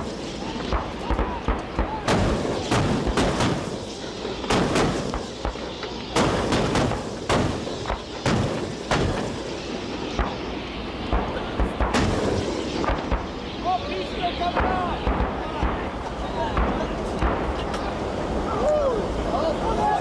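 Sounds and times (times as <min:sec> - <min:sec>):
sharp gun reports: 0:00.4 - 0:17.6.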